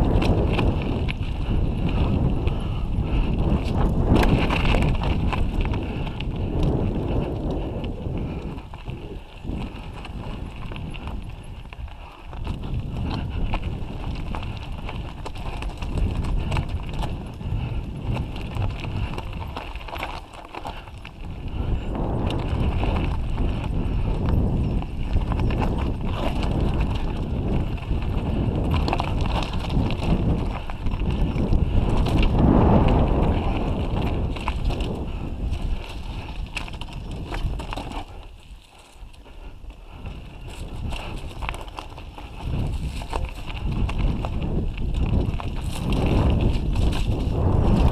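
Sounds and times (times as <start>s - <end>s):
tyres crunching over stones: 0.0s - 47.9s.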